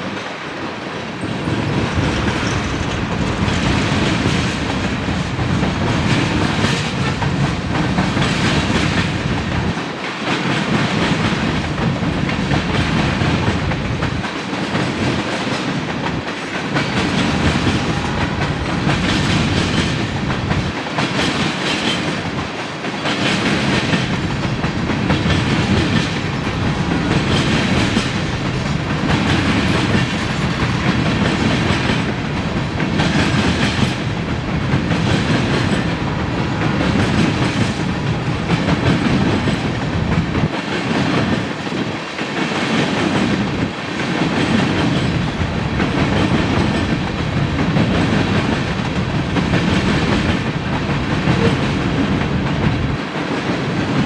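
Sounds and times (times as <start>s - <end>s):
train wheels clacking over rail joints: 1.2s - 54.0s.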